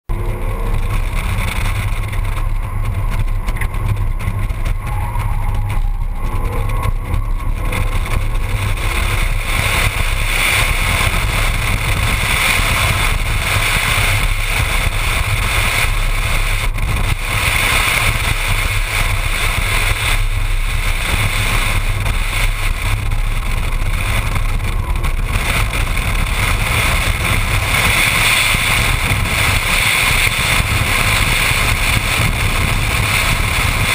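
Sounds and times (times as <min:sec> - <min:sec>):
car engine: 0:00.0 - 0:33.9
road noise: 0:00.0 - 0:33.9.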